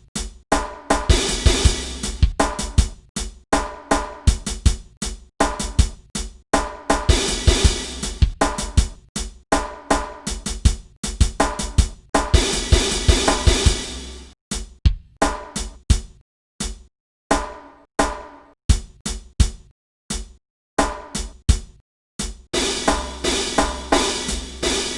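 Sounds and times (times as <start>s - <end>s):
drum kit hip-hop groove: 0.0s - 24.9s.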